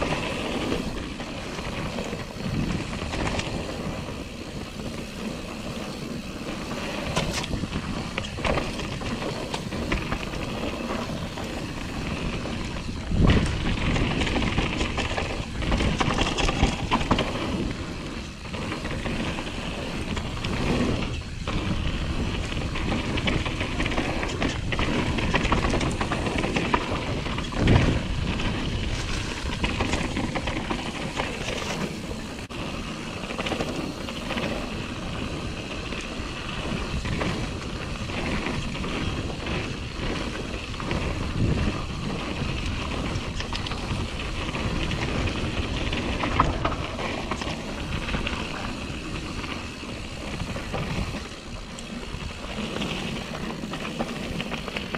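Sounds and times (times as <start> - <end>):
bike rattling over bumps: 0.0 - 54.9
tyres crunching over dirt trail: 0.0 - 54.9
wind noise on camera: 0.0 - 54.9.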